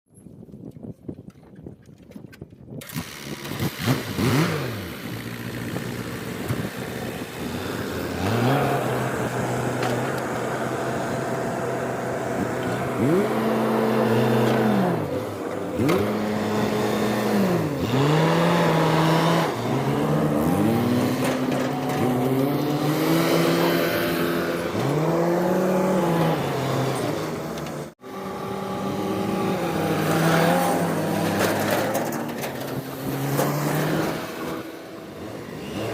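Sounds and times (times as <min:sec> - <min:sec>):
diesel engine revving: 0:02.8 - 0:35.9.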